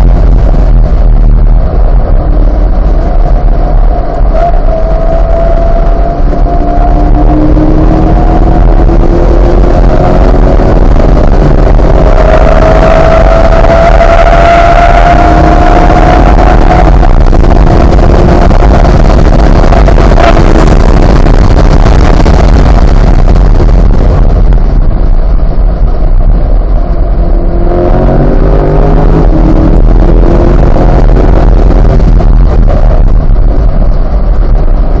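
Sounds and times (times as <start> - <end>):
car engine running hard: 0.0 - 35.0
wind and road noise: 0.0 - 35.0.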